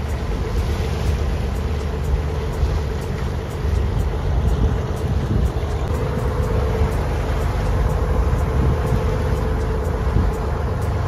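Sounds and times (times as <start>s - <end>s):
boat engine rumbling: 0.0s - 11.0s
water wash along hull: 0.0s - 11.0s.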